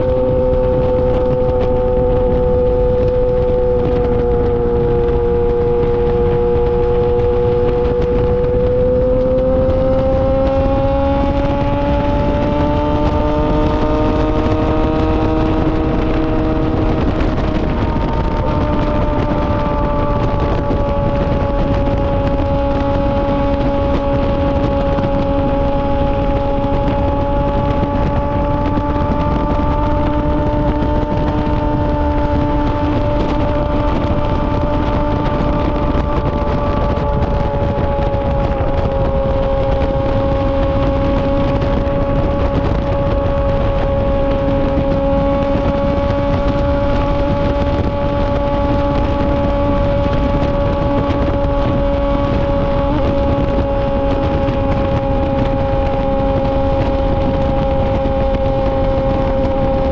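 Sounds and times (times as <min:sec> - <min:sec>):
motorcycle engine at high revs: 0:00.0 - 0:59.9
wind on microphone: 0:00.0 - 0:59.9.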